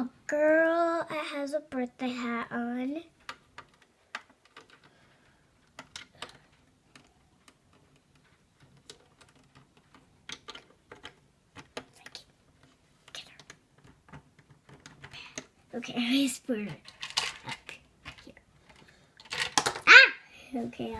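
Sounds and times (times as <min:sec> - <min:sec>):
plastic pieces clicking: 0:03.1 - 0:20.0.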